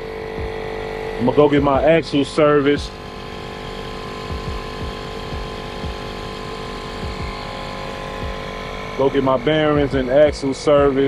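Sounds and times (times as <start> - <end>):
tire inflator motor whine: 0.0 - 11.0.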